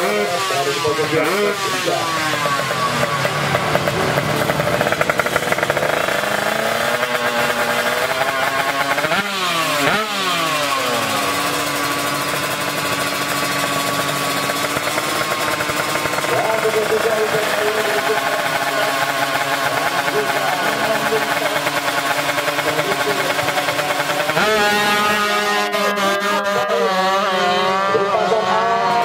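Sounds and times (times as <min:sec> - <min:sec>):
motorcycles racing at full throttle: 0:00.0 - 0:29.0.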